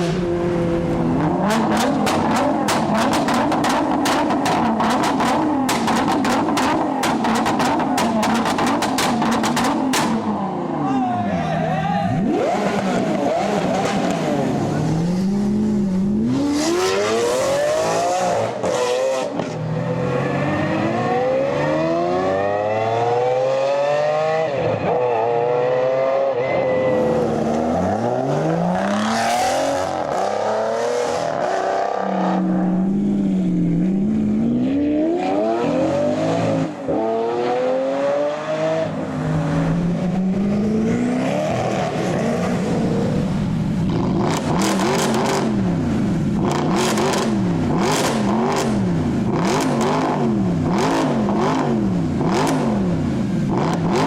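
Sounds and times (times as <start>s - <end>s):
sports car engines accelerating: 0.0s - 10.8s, 12.1s - 54.0s.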